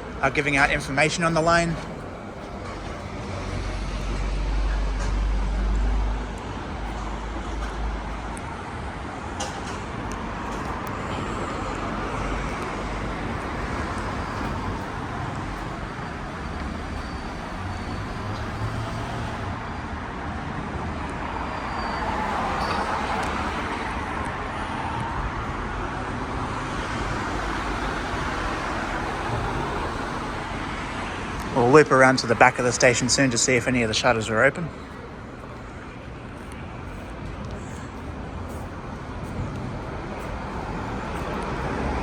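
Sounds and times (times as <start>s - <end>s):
road traffic: 0.0s - 42.0s
vehicles passing: 0.0s - 42.0s.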